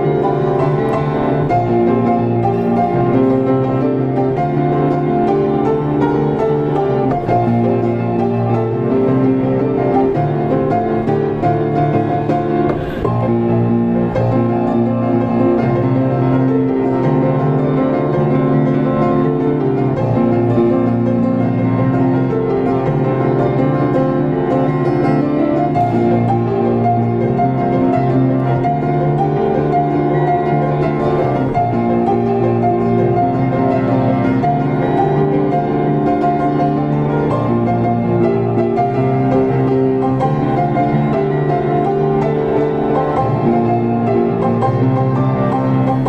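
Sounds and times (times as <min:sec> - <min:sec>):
grand piano solo: 0:00.0 - 0:46.0.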